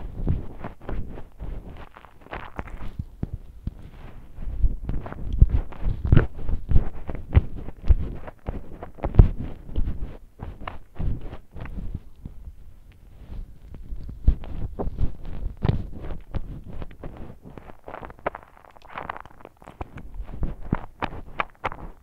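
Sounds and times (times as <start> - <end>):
wet chewing mouth sounds: 0.5 - 22.0.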